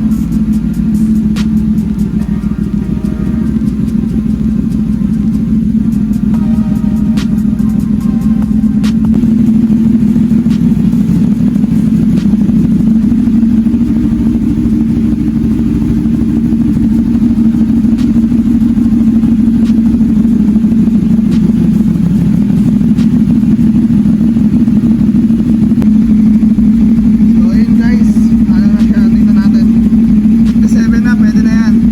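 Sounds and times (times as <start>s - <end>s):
motorcycle engine idling: 0.0s - 31.9s.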